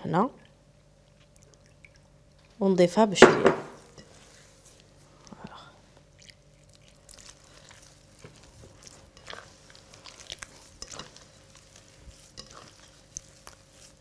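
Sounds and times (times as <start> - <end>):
hands mixing dough in glass bowl: 1.2 - 14.0.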